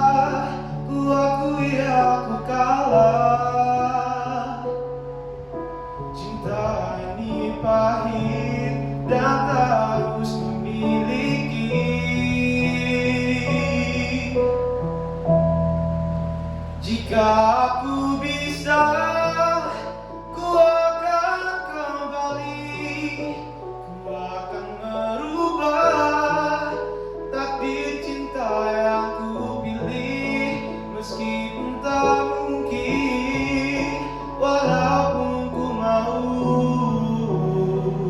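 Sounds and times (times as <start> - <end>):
man singing a slow ballad: 0.0 - 5.1, 6.0 - 14.9, 16.8 - 38.0.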